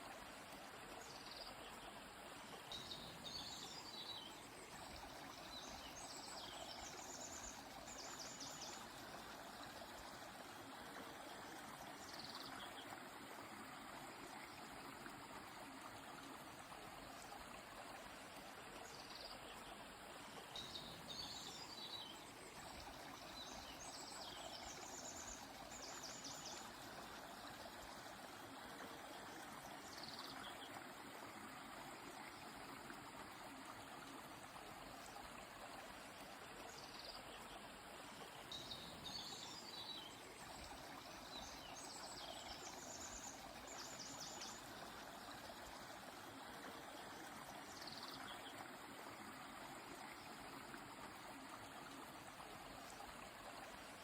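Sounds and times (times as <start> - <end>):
flowing river: 0.0 - 54.0.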